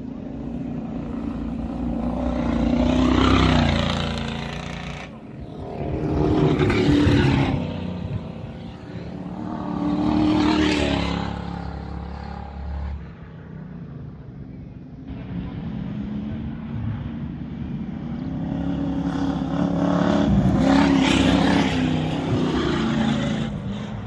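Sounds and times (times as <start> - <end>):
faint engines of approaching cars: 0.0 - 24.0
race cars passing at speed: 0.0 - 24.0.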